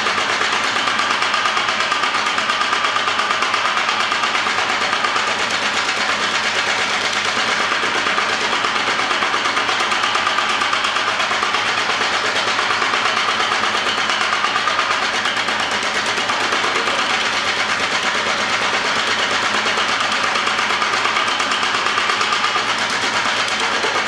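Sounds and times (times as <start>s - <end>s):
power hammer hammering: 0.0s - 24.0s.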